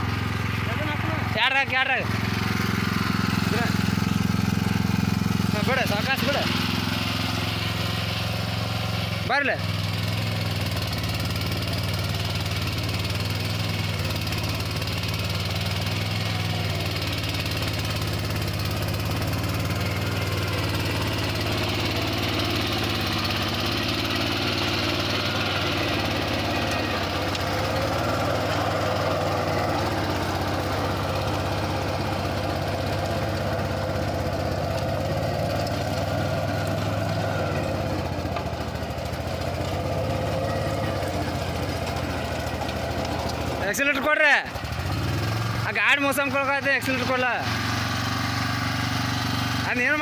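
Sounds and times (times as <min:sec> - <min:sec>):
rotary tiller working soil: 0:00.0 - 0:50.0
tractor diesel engine droning: 0:00.0 - 0:50.0.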